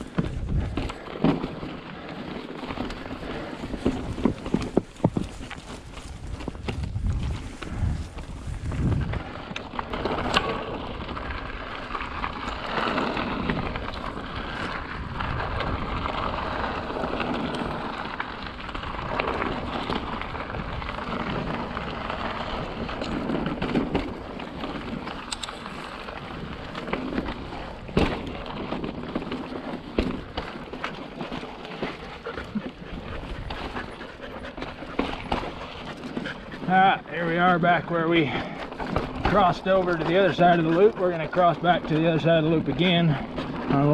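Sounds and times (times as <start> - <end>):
bike knocks and rattles: 0.0 - 36.4, 37.3 - 40.4
bike tyres rolling on rock: 0.0 - 43.9.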